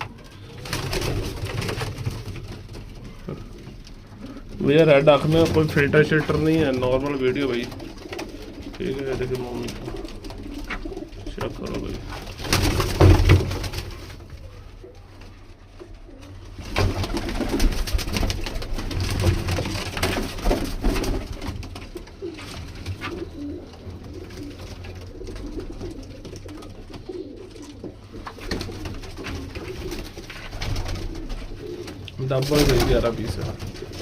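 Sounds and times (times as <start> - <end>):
pigeons cooing: 0.0 - 34.0
rustling: 0.0 - 34.0.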